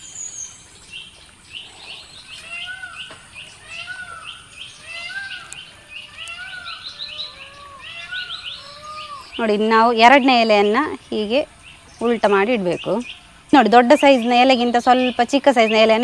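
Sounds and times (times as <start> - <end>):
rapid high bird chirps: 0.0 - 16.0.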